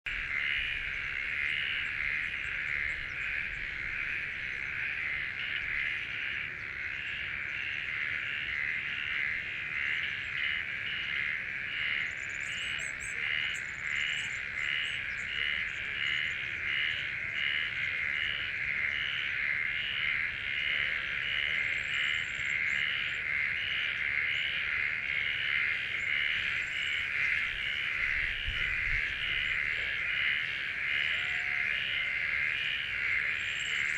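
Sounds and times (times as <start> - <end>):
pulsing animal chorus: 0.1 - 33.9.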